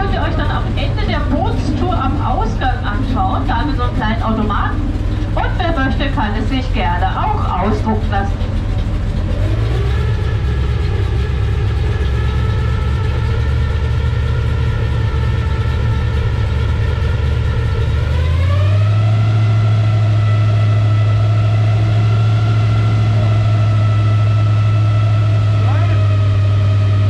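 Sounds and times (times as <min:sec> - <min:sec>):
boat motor running: 0:00.0 - 0:27.0.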